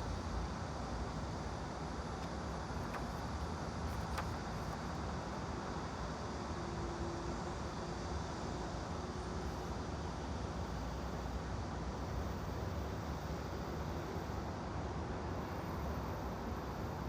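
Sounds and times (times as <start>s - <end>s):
steady white noise: 0.0s - 17.0s.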